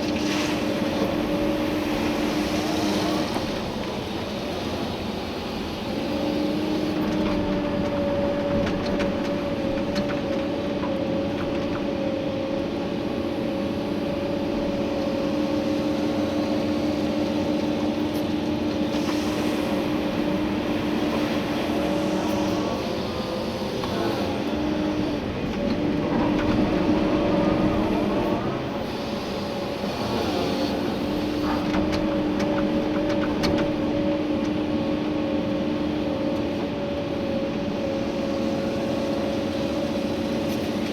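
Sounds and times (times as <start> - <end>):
excavator engine and hydraulics: 0.0 - 40.9.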